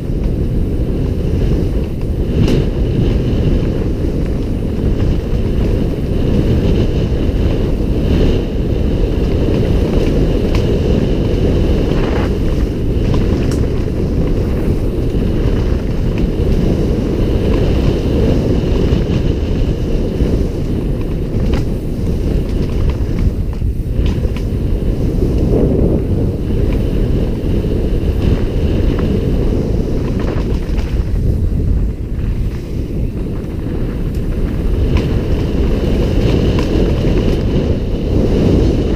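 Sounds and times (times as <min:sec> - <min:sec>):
bike knocking on rough trail: 0:00.0 - 0:38.9
wind roaring over microphone: 0:00.0 - 0:38.9.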